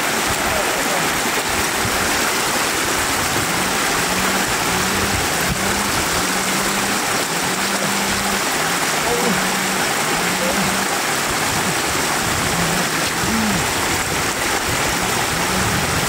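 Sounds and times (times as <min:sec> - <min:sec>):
floodwater rushing and cascading: 0:00.0 - 0:16.0.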